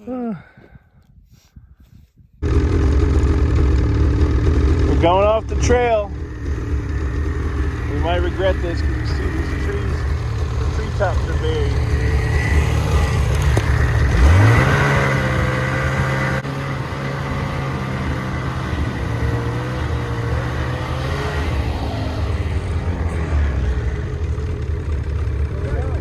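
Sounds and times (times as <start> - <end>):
snowmobile engine revving: 2.4 - 26.0.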